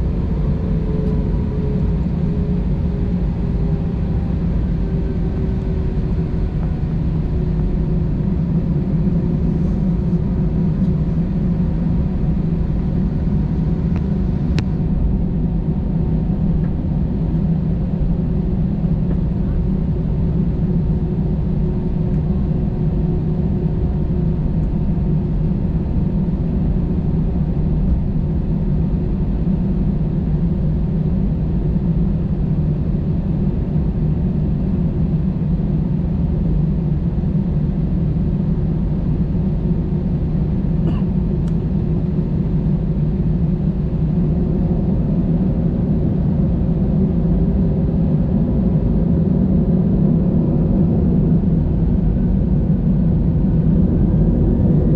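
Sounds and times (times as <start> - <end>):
airplane cabin engine rumble: 0.0 - 54.9.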